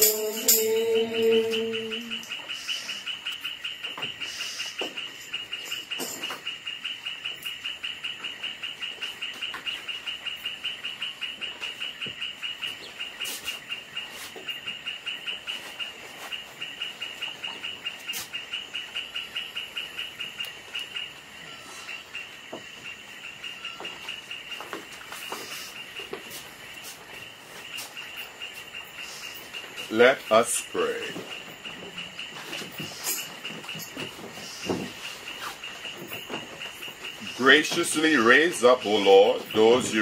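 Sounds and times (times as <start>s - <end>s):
rapid high chirping: 0.0s - 40.0s.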